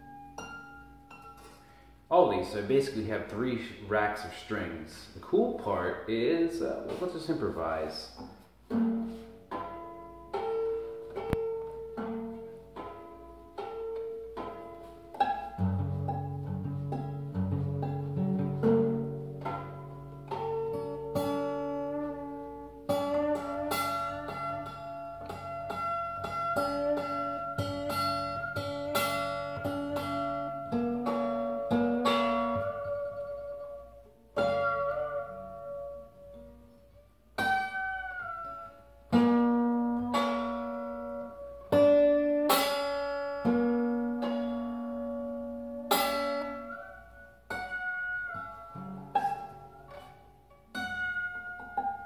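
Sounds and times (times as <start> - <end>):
acoustic guitar plucked notes: 0.0 - 52.0.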